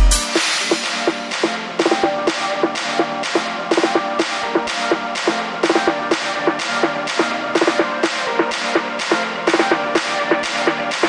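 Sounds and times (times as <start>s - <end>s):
background music with percussion: 0.0s - 11.0s.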